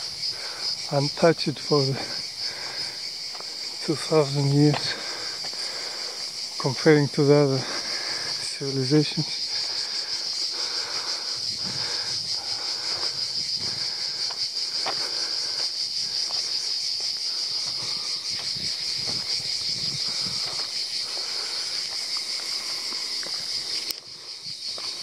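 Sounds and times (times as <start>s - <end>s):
cicadas buzzing: 0.0s - 25.0s
footsteps on dirt path: 0.0s - 25.0s.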